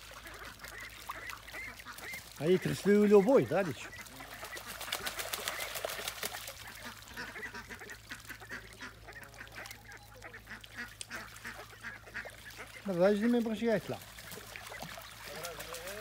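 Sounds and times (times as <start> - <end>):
ducks splashing in water: 0.0 - 16.0
soft duck quacks: 0.1 - 13.6.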